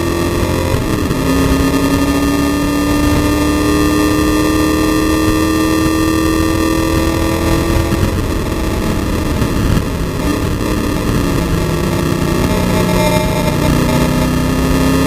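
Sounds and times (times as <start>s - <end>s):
race car engine at full throttle: 0.0s - 15.0s.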